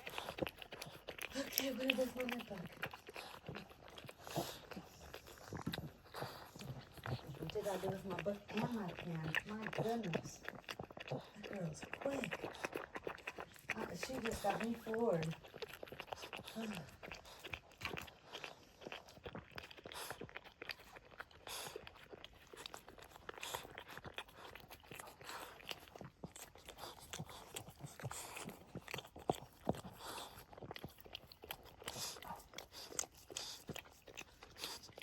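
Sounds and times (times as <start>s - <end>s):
dog licking and chewing: 0.0s - 35.0s.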